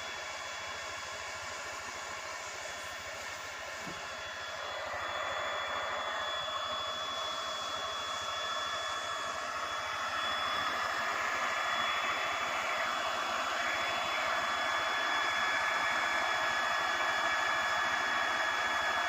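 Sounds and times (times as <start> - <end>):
hot-air gun blowing: 0.0 - 17.6.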